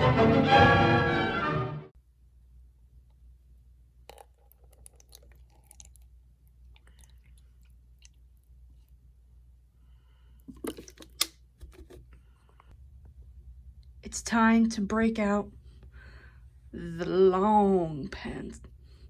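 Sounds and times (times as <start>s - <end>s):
low steady hum: 2.0s - 19.0s.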